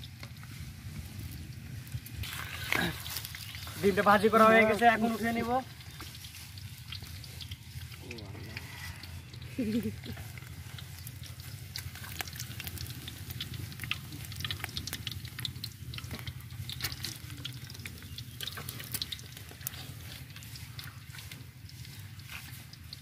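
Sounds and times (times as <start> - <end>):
oil sizzling and popping: 0.0 - 23.0.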